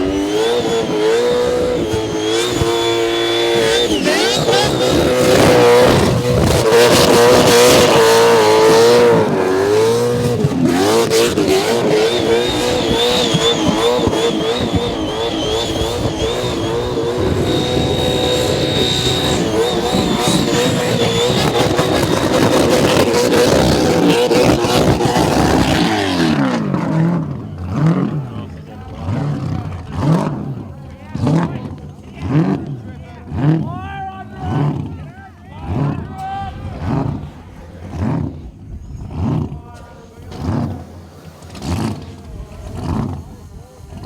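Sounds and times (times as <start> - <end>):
car engine revving high: 0.0 - 44.0.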